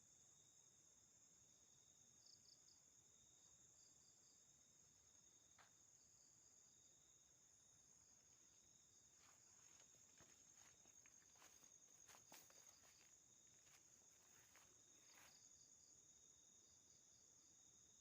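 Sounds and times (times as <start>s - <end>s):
crickets trilling: 1.8s - 18.0s.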